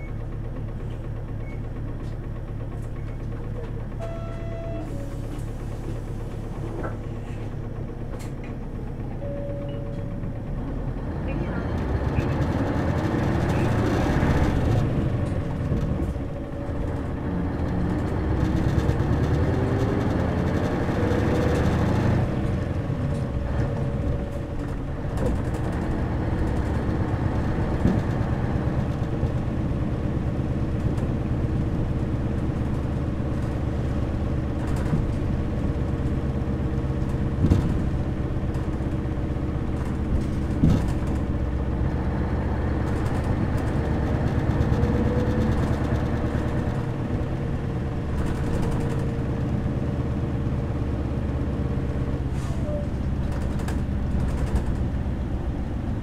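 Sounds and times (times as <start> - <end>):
bus engine whine: 0.0 - 56.0.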